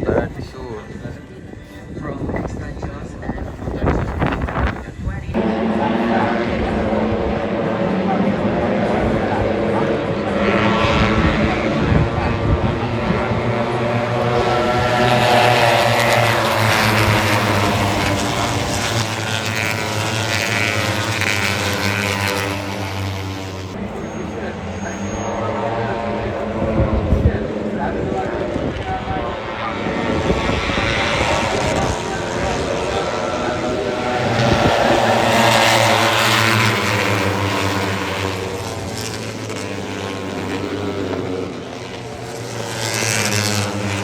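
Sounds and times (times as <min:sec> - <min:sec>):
crowd noise: 0:00.0 - 0:44.0
steady engine drone: 0:00.0 - 0:44.0.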